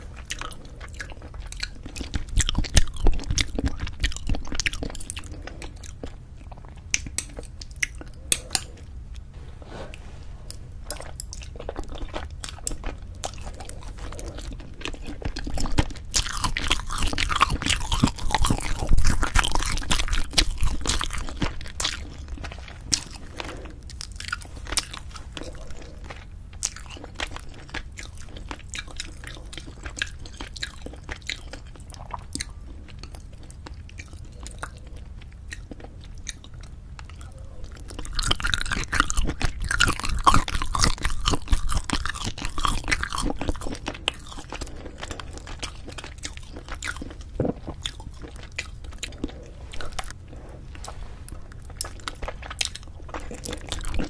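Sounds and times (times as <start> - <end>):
chewing and biting food: 0.0 - 9.3, 10.6 - 54.0.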